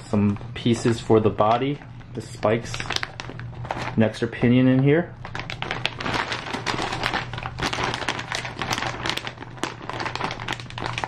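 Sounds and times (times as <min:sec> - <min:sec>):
plastic bags crinkling: 0:00.1 - 0:11.0.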